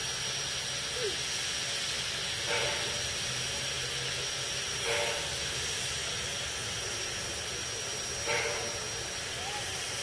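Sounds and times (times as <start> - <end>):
steam hissing from locomotive: 0.0 - 10.0.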